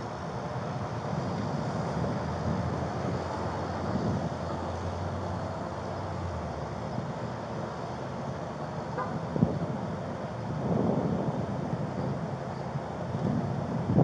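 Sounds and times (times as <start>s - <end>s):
wind buffeting microphone: 0.0s - 7.4s, 8.3s - 14.0s
traffic rumble: 0.0s - 14.0s.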